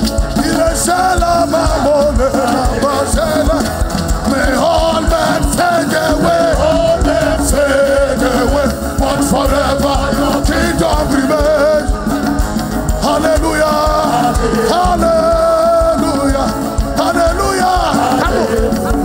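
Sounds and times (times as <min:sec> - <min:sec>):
band playing worship music: 0:00.0 - 0:19.0
person singing: 0:00.0 - 0:19.0.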